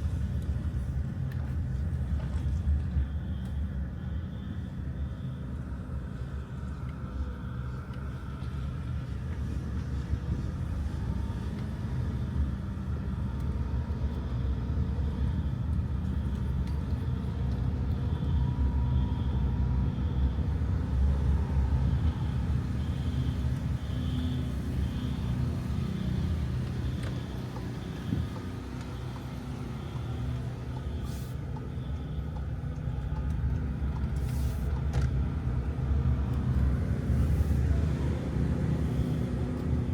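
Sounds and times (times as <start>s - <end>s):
motor vehicle rumbling: 0.0s - 39.9s
road noise: 0.0s - 39.9s.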